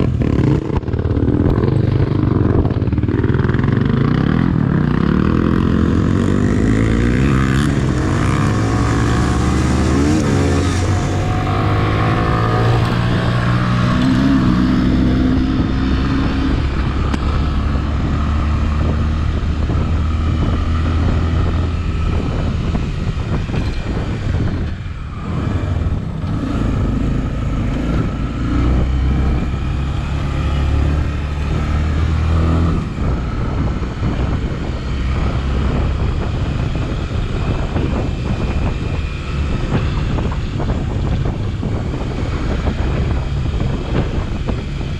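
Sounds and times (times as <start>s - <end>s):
motorcycle engine running: 0.0s - 44.9s
wind noise on microphone: 0.0s - 44.9s.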